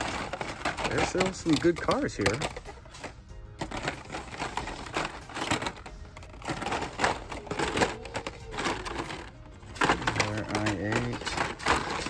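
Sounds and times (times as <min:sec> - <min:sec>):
plastic packages clacking on hooks: 0:00.0 - 0:12.0.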